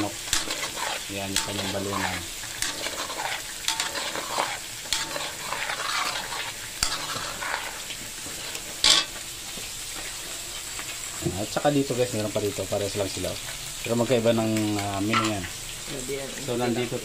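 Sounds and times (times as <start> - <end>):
gizzards sizzling in oil: 0.0 - 17.0.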